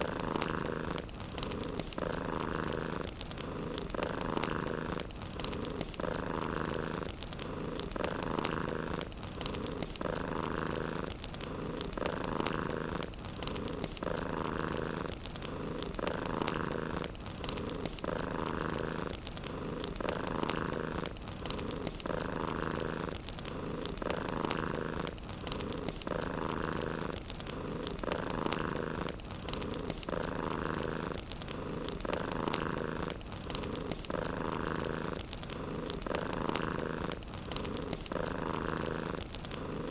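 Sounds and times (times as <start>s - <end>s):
cat purring: 0.0s - 39.9s
fireplace fire crackling: 0.0s - 39.9s.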